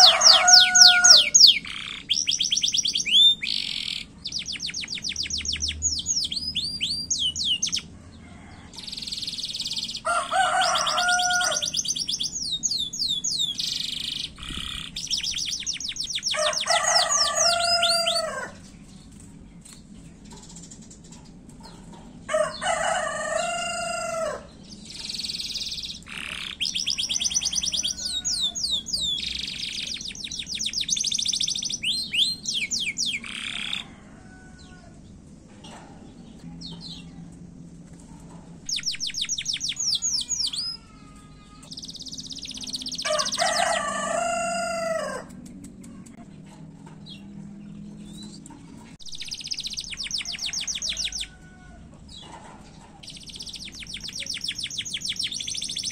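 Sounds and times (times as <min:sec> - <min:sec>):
canary singing trills: 0:00.0 - 0:34.7, 0:38.6 - 0:45.3, 0:46.9 - 0:55.9.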